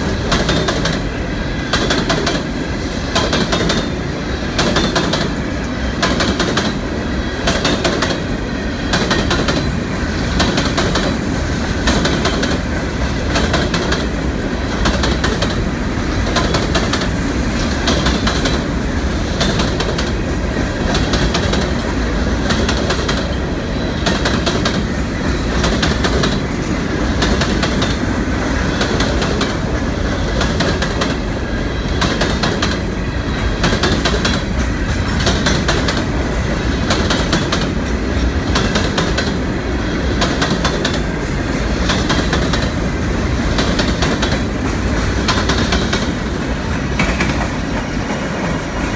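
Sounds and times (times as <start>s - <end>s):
wheels clickety-clack: 0.0s - 8.3s, 8.9s - 48.9s
freight train rumbling past: 0.0s - 48.9s.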